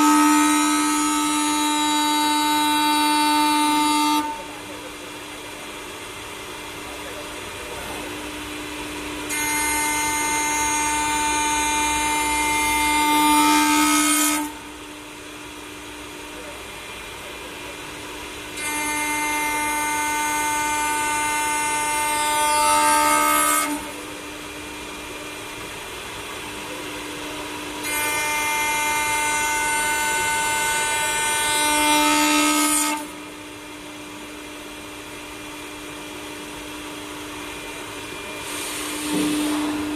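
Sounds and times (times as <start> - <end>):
lathe cutting whine: 0.0 - 39.9
steady machine hum: 0.0 - 39.9.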